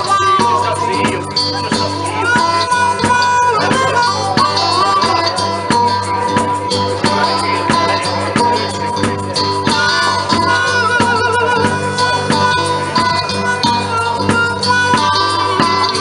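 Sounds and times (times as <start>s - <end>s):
live blues band playing: 0.0s - 16.0s
wavering lead melody: 0.0s - 16.0s.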